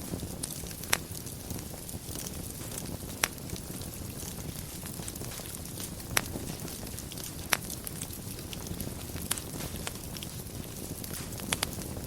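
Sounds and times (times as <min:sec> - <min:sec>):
flames crackling softly: 0:00.0 - 0:12.0
wood fire burning: 0:00.0 - 0:12.0.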